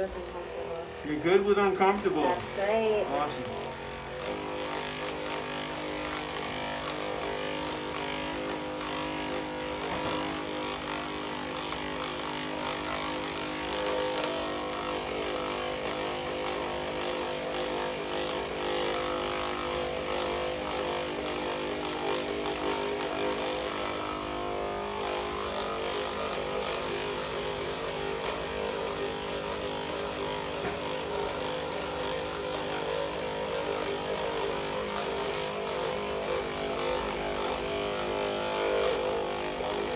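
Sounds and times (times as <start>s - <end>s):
massage gun motor hum: 0.0s - 39.9s.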